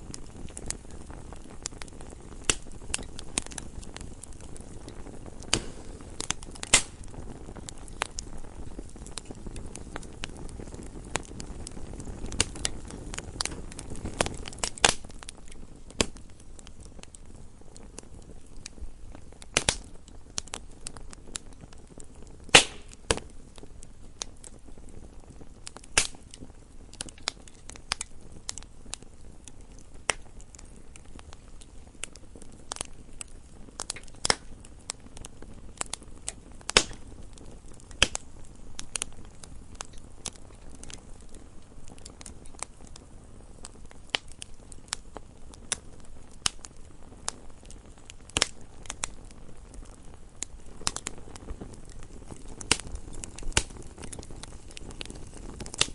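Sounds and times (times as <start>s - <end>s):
fire rushing: 0.0s - 55.9s
logs crackling and popping: 0.0s - 55.9s.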